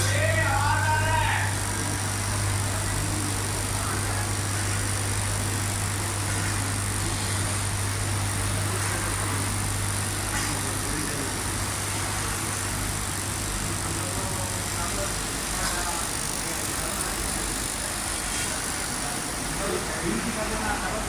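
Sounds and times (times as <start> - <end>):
fabric machine running: 0.0 - 21.0.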